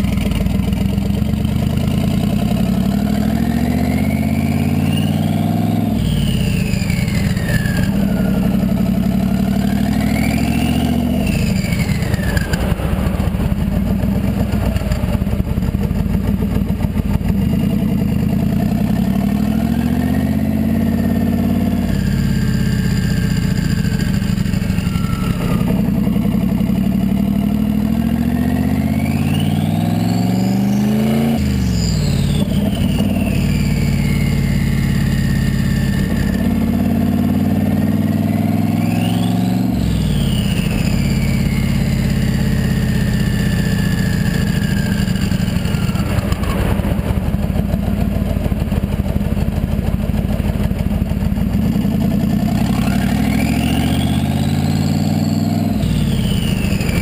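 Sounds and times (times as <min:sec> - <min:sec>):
car exhaust revving: 0:00.0 - 0:57.0
turbo whistle: 0:00.0 - 0:57.0.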